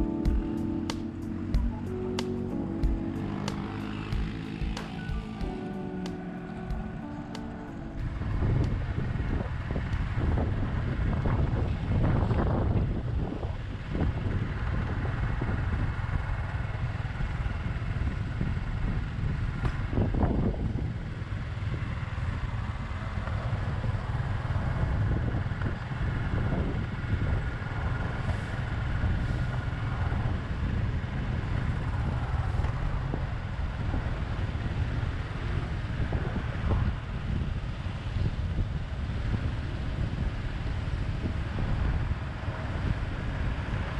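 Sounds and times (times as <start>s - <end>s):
motorbike engine running: 0.0s - 43.9s
street traffic: 0.0s - 43.9s
wind buffeting microphone: 7.9s - 43.9s.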